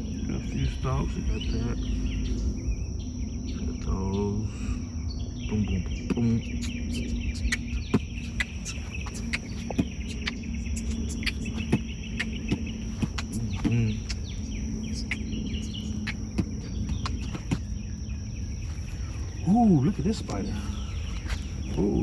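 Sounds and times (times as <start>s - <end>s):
bird chirps: 0.0s - 22.0s
high insect drone: 0.0s - 22.0s.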